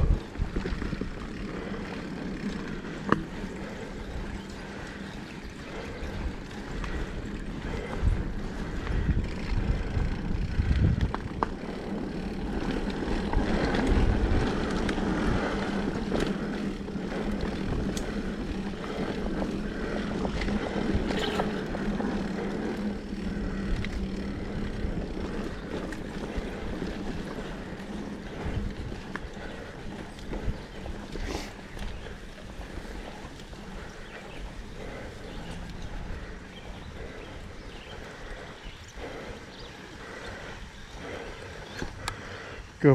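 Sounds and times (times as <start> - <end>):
tyre and wind noise: 0.0 - 42.2
bike rattling over ground: 0.0 - 42.6.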